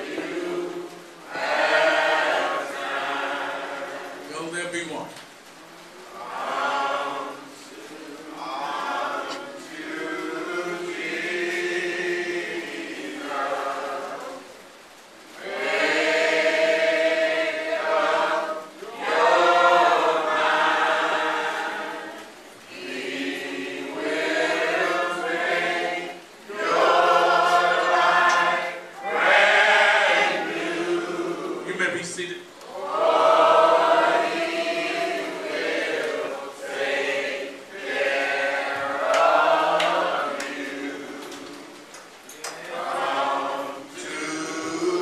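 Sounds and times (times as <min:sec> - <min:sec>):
congregation singing a hymn: 0:00.0 - 0:05.0, 0:05.6 - 0:45.0.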